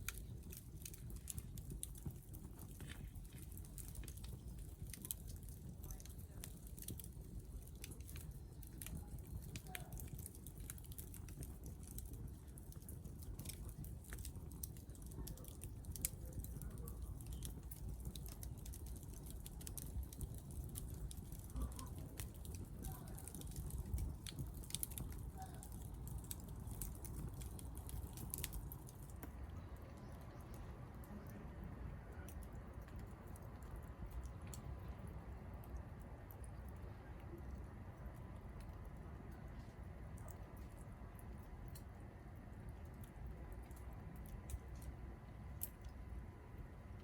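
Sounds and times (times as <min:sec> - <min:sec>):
low steady rumble: 0:00.0 - 0:47.0
wood fire crackling: 0:00.0 - 0:47.0.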